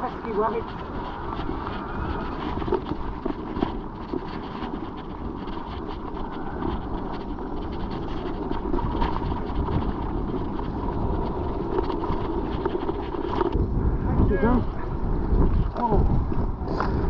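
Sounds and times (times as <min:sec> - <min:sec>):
bike tyres on rough trail: 0:00.0 - 0:17.0
wind buffeting microphone: 0:00.0 - 0:17.0.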